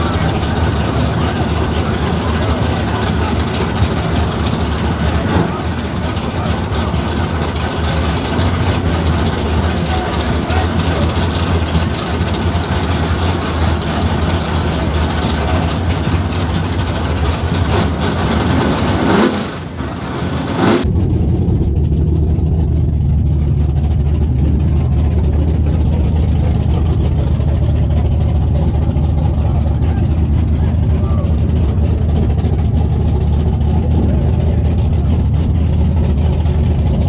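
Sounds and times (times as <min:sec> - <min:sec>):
crowd noise: 0:00.0 - 0:20.9, 0:24.2 - 0:37.0
engine revving: 0:00.0 - 0:37.0
race car engines idling: 0:00.0 - 0:37.0.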